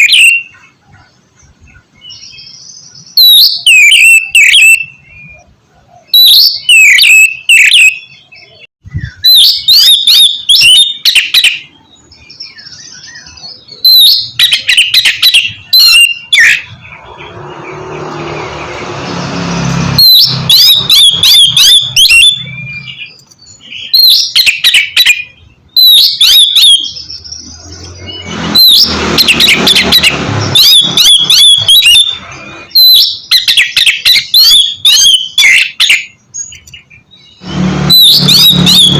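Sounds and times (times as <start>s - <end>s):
bird singing whistled phrases: 0.0s - 0.7s, 1.7s - 16.8s, 20.0s - 32.2s, 32.8s - 38.9s.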